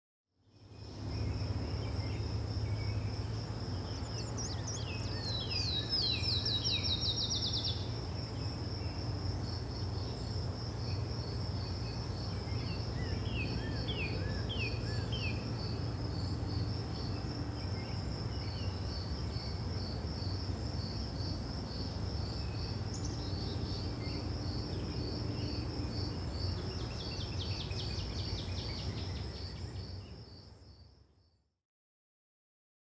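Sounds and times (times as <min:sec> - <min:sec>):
insects trilling: 0:00.7 - 0:30.9.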